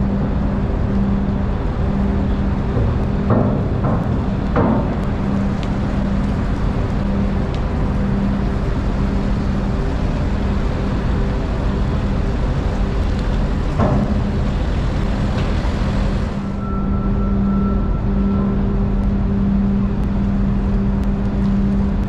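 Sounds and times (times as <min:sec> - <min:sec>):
engine and machinery hum: 0:00.0 - 0:22.0.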